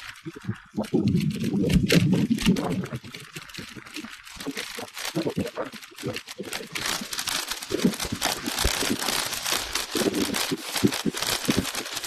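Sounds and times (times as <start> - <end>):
crackly hiss: 0.0 - 12.0.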